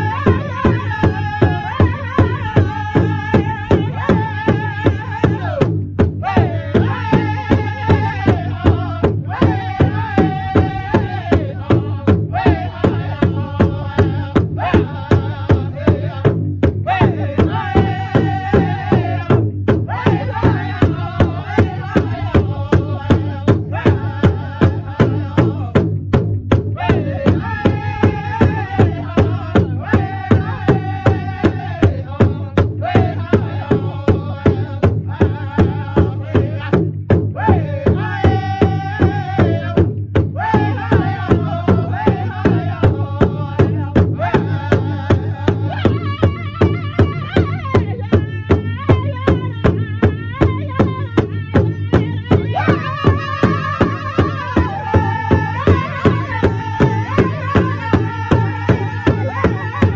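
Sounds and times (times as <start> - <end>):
group of singers: 0.0 - 25.9, 26.6 - 59.9
big drum fast beat: 0.0 - 59.9.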